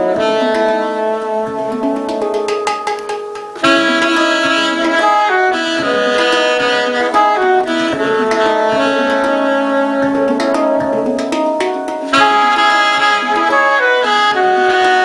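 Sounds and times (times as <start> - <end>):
alto saxophone melody: 0.0 - 15.0
handpan struck by hand: 0.0 - 15.0.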